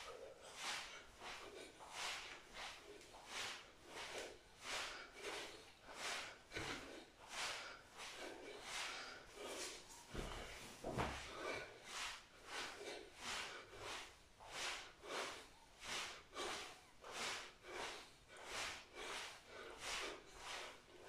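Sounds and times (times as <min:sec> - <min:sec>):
person breathing hard: 0:00.0 - 0:21.0.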